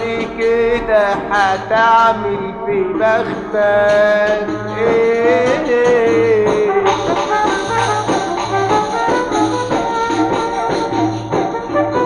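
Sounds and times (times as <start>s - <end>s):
band playing over a steady beat: 0.0s - 12.0s.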